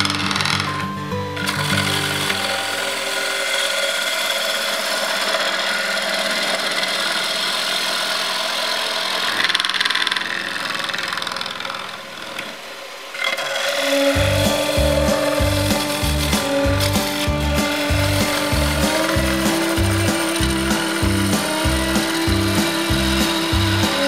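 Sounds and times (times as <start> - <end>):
wood lathe gouge cutting bowl: 0.0 - 0.8, 1.4 - 24.0.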